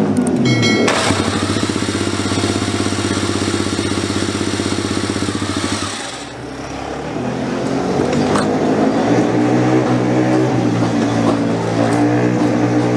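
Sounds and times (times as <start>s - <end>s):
racing motorcycle engine running: 0.0s - 12.9s.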